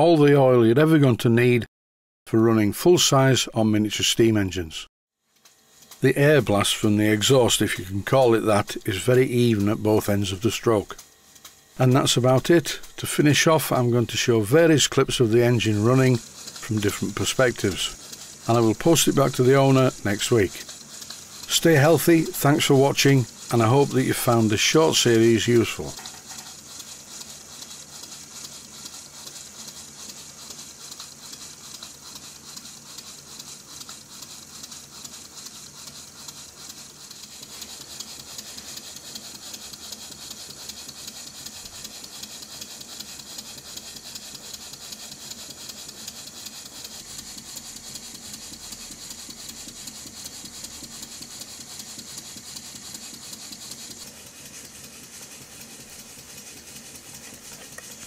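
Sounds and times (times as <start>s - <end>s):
steam engine exhaust beat: 5.7s - 58.0s.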